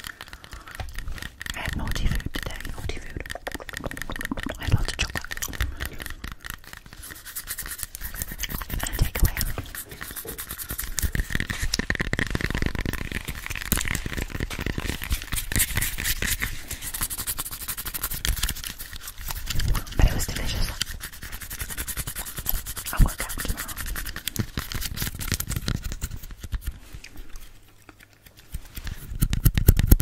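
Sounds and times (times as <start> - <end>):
fingernails scratching apple skin: 0.0 - 30.0.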